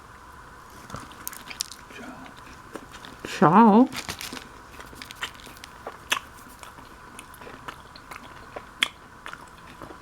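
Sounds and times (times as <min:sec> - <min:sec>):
steady low hiss: 0:00.0 - 0:10.0
close-up chewing: 0:00.7 - 0:03.4, 0:04.0 - 0:10.0.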